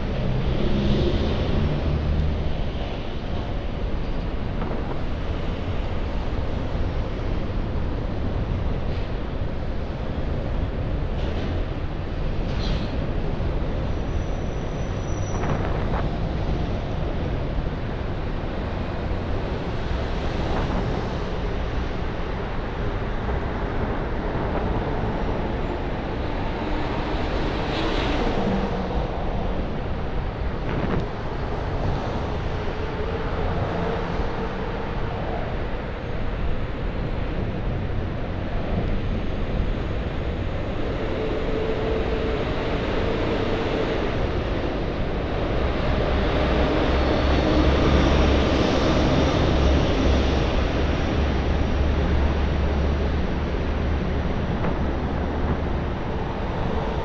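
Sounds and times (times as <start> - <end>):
motor traffic drone: 0.0 - 57.0
wind rushing over microphone: 0.0 - 57.0.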